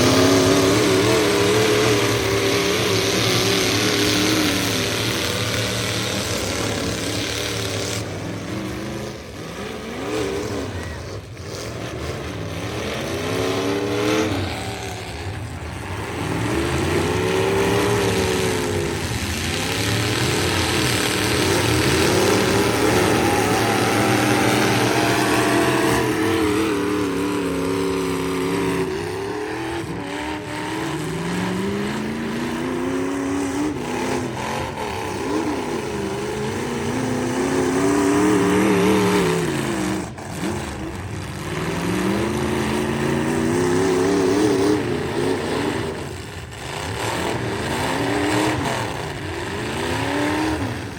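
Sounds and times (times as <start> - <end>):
pickup truck engines revving hard: 0.0 - 50.9.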